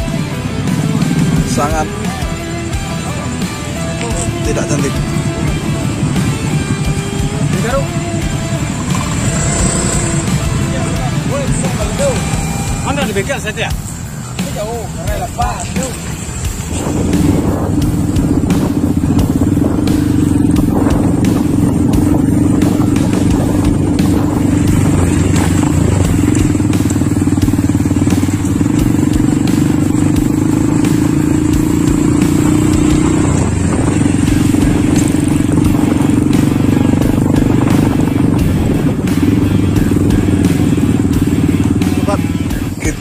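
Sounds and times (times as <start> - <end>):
small motorcycle engines running: 0.0 - 43.0.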